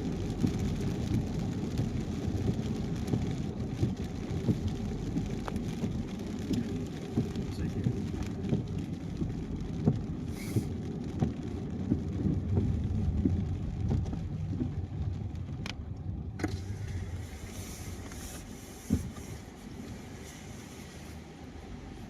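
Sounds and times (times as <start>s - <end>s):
car driving on wet road: 0.0s - 22.0s.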